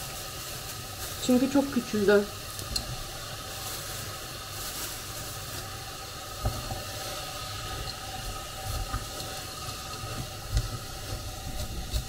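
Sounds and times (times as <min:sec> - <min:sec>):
cabbage sizzling in a pot: 0:00.0 - 0:12.0.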